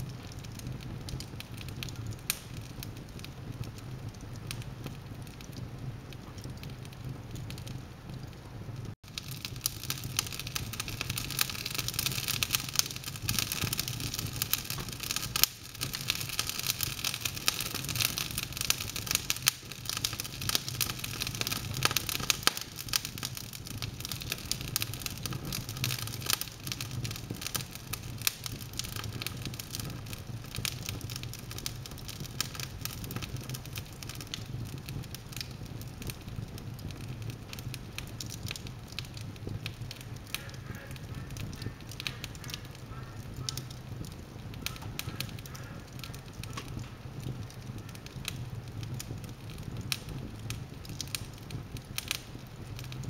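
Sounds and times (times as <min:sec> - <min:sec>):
logs crackling and popping: 0:00.0 - 0:53.0
rush of flames: 0:00.0 - 0:53.0.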